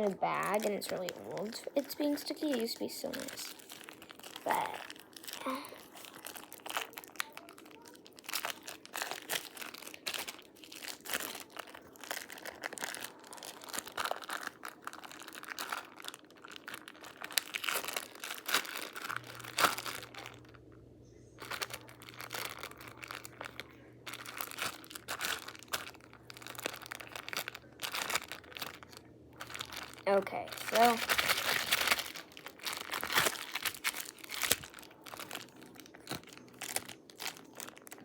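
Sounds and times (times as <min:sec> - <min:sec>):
slime crackling and popping: 0:00.0 - 0:20.7, 0:21.4 - 0:38.0.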